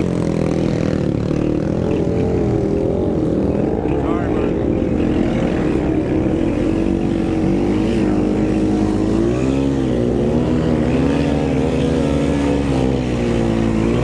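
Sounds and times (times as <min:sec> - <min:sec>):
quad engine running hard: 0:00.0 - 0:14.0.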